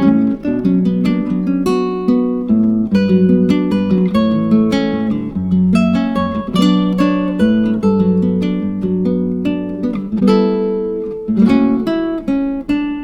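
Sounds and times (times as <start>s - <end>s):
acoustic guitar plucked chords: 0.0s - 13.0s.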